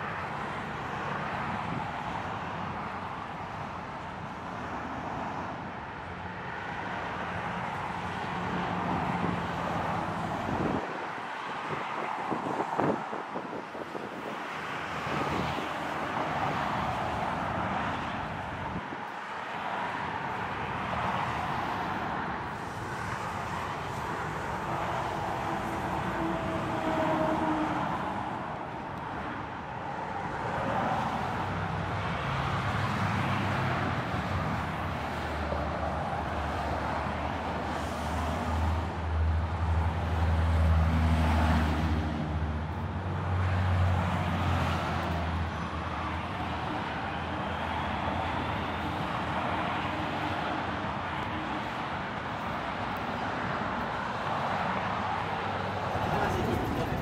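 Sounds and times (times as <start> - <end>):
cars passing close by: 0.0 - 57.0.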